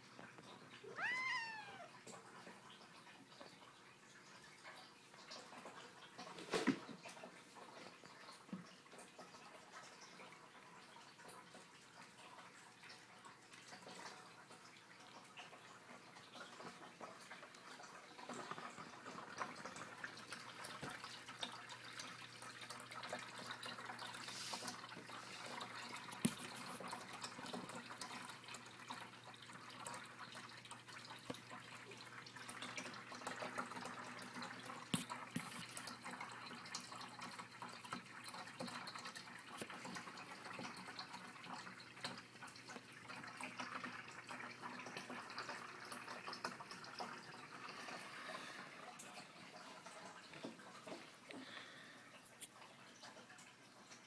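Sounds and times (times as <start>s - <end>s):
aquarium water trickling: 0.0s - 54.0s.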